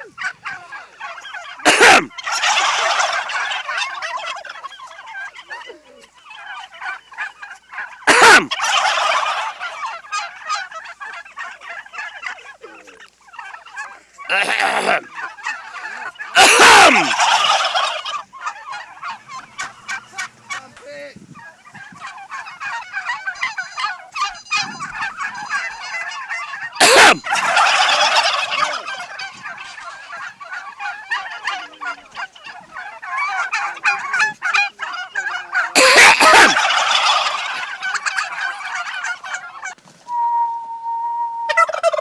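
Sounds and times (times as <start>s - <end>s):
chatter of turkey calls: 0.0s - 40.0s, 41.5s - 42.0s
turkey gobbling: 0.0s - 40.0s, 41.5s - 42.0s.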